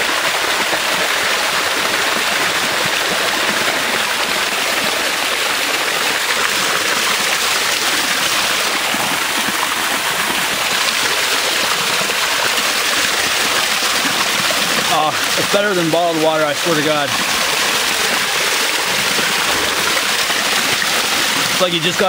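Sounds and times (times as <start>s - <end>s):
waterfall splashing over rocks: 0.0s - 22.0s.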